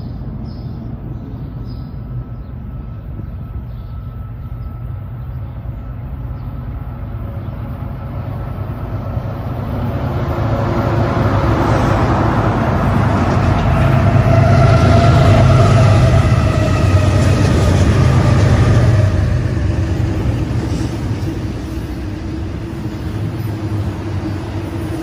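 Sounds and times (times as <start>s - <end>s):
diesel locomotive rumble: 0.0s - 25.0s.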